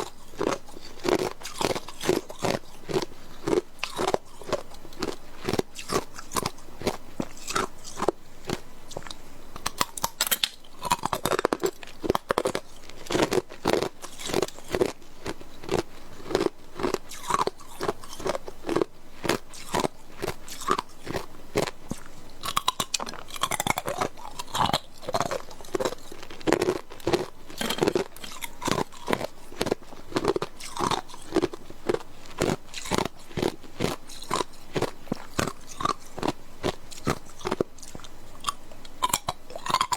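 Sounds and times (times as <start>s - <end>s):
chewing ice cubes: 0.0s - 39.9s.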